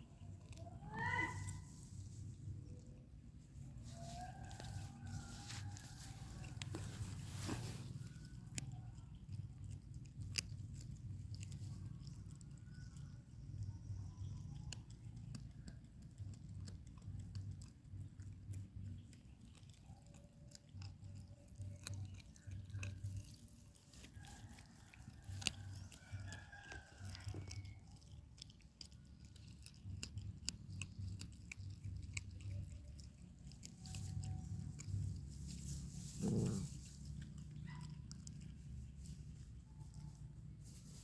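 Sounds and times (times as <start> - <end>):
puppy chewing and eating: 0.0 - 41.0.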